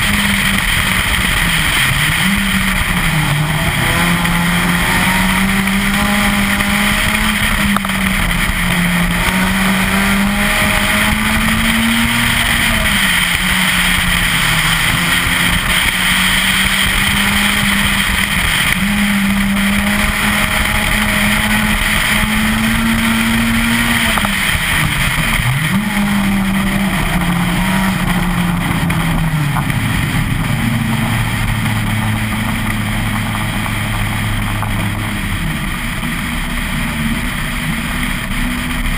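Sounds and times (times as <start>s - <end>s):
car engine revving hard: 0.0s - 38.9s
road and wind noise: 0.0s - 38.9s.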